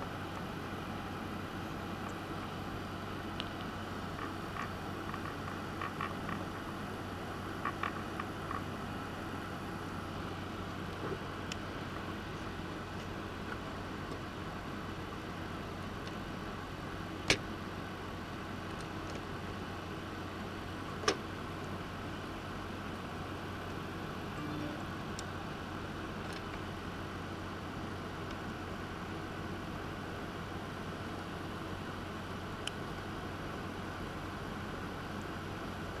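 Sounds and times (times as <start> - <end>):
steady hiss and low hum: 0.0 - 36.0.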